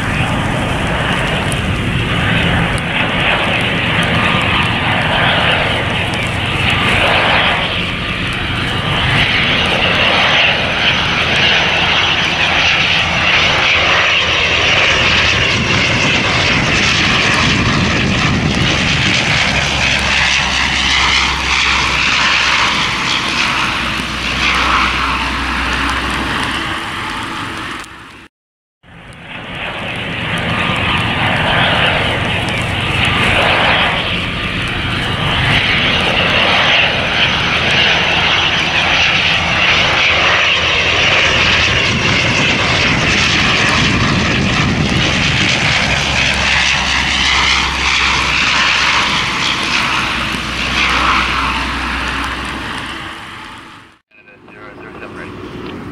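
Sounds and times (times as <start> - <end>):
turboprop aircraft drone with hiss: 0.0 - 28.3, 28.9 - 55.9.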